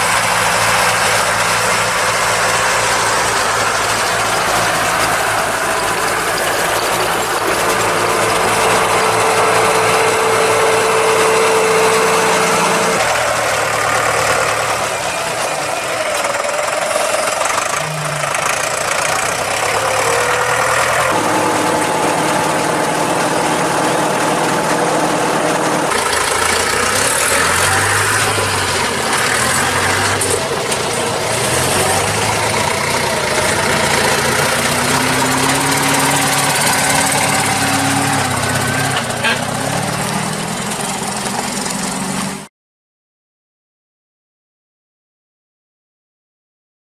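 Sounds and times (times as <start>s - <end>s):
tractor engines running: 0.0s - 42.5s.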